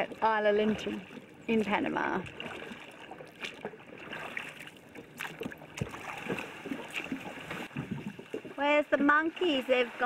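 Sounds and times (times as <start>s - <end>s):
water splashing around boat: 0.0s - 10.0s.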